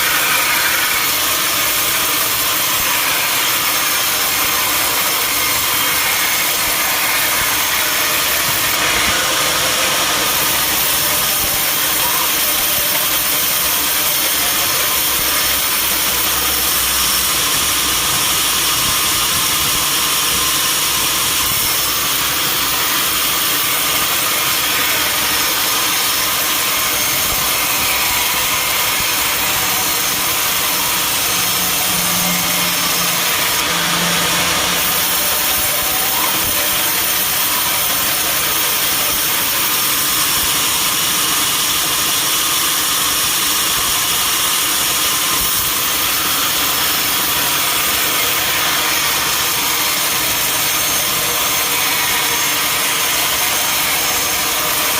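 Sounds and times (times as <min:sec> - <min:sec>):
sawmill saw running: 0:00.0 - 0:54.9.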